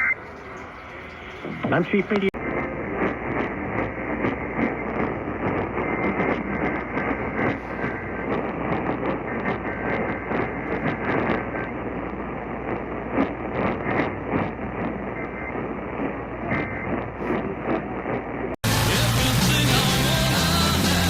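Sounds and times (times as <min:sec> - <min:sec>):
radio static and crackle: 0:00.0 - 0:19.0.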